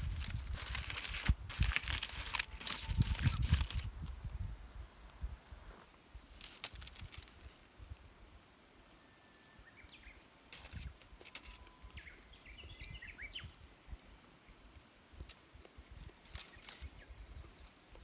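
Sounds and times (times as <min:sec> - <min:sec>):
faint outdoor ambience: 0:00.0 - 0:18.0.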